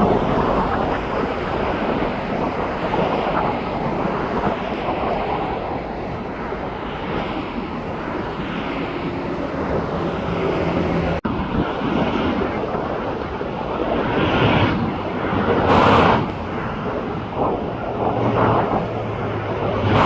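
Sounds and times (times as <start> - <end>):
jet engine noise: 0.0 - 20.0
wind on microphone: 0.0 - 20.0.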